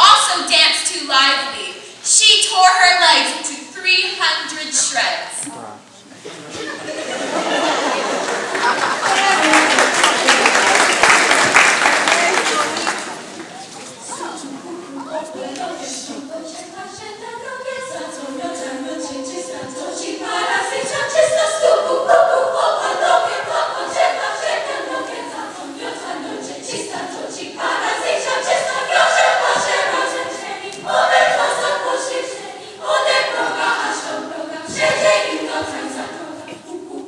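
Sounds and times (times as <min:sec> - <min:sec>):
choir singing in parts: 0:06.2 - 0:13.4, 0:14.1 - 0:37.0.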